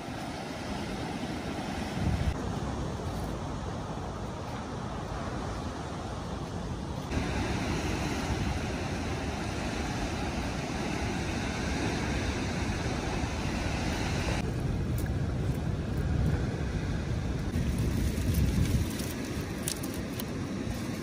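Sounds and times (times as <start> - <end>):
surf on rocky shore: 0.0 - 21.0
wind buffeting microphone: 0.0 - 21.0.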